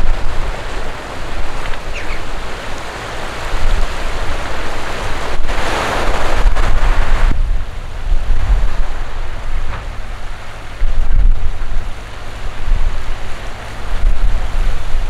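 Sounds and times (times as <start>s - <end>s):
choppy sea waves: 0.0s - 15.0s
wind buffeting microphone: 0.0s - 15.0s.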